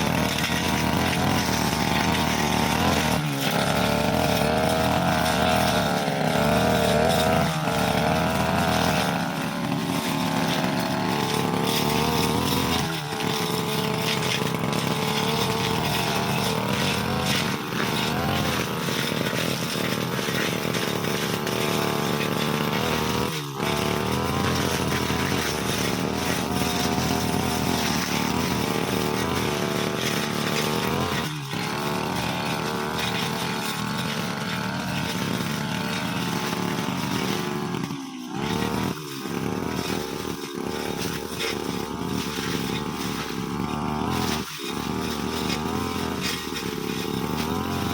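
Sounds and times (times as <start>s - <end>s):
brush cutter engine cutting grass: 0.0s - 47.9s.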